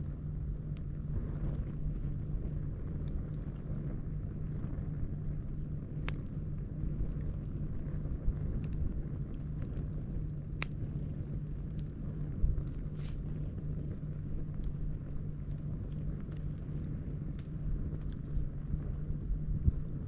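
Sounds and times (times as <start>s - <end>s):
campfire crackling: 0.0s - 20.0s
fire popping: 0.0s - 20.0s
low rumble: 0.0s - 20.0s.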